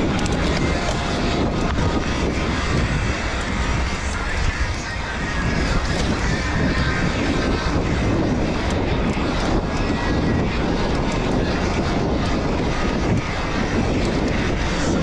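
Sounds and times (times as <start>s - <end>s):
bike clicks and rattles: 0.0s - 15.0s
knobby tyres rolling on dirt: 0.0s - 15.0s
wind rushing: 0.0s - 15.0s.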